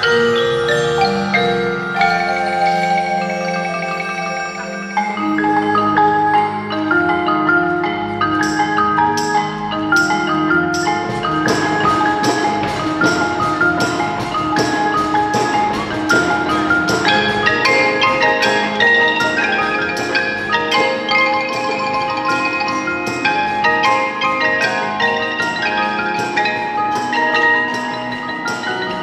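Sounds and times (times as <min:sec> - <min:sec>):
mallet percussion ensemble: 0:00.0 - 0:29.0.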